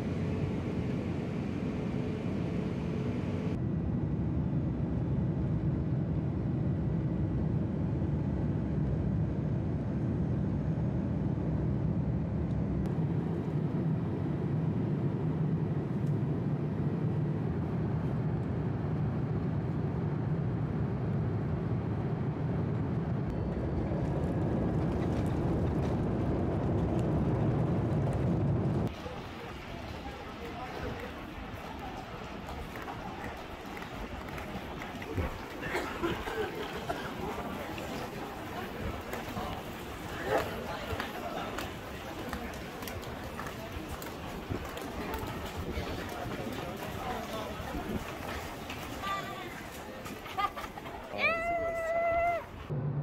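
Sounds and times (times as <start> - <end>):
jet engine cabin rumble: 0.0 - 53.0.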